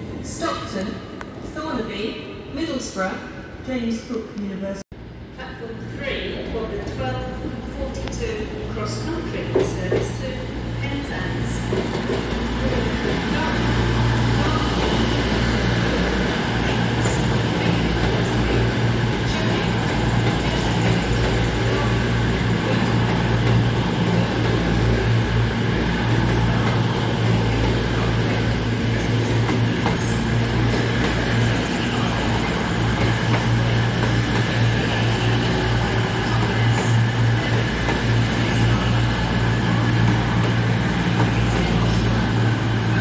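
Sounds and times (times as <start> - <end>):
train diesel engines humming: 5.0 - 43.0.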